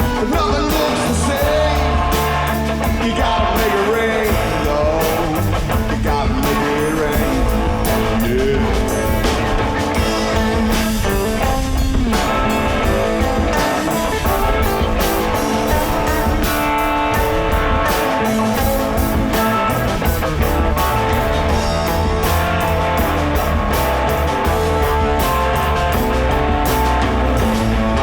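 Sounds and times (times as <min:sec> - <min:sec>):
drum kit beat: 0:00.0 - 0:28.0
electric guitar: 0:00.0 - 0:28.0.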